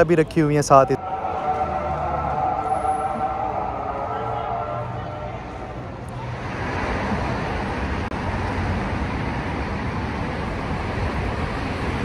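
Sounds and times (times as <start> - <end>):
steady rushing noise: 1.0 - 12.0.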